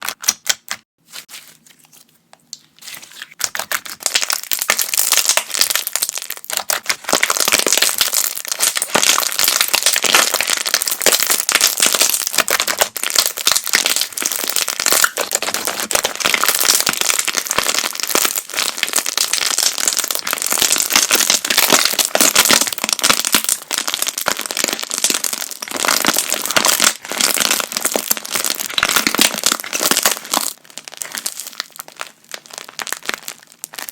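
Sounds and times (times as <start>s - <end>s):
slime popping and crackling: 2.4s - 33.9s.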